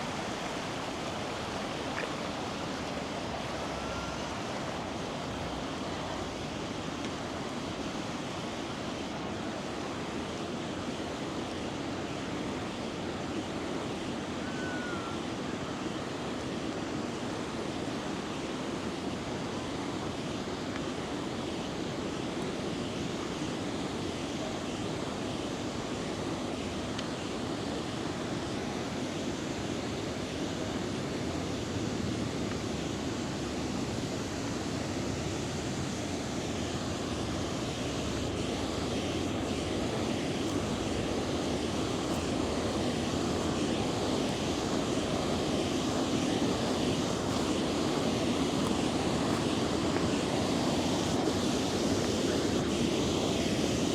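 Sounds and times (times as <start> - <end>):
river rushing: 0.0 - 53.9.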